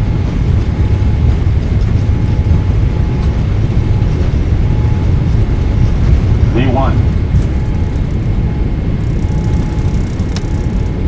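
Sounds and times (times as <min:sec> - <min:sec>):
jet engines rumbling: 0:00.0 - 0:11.0
wheels on runway: 0:00.0 - 0:11.0.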